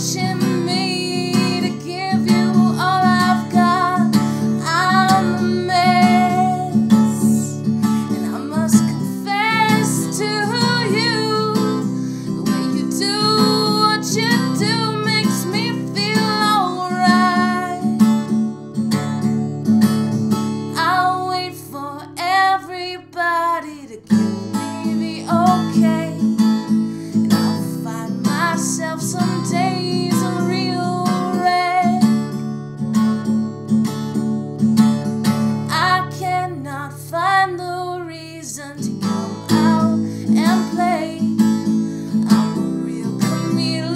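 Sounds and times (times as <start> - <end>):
woman singing: 0.0 - 18.2, 20.7 - 32.3, 35.5 - 43.9
acoustic guitar strumming: 0.0 - 22.5, 23.1 - 37.2, 38.7 - 43.9.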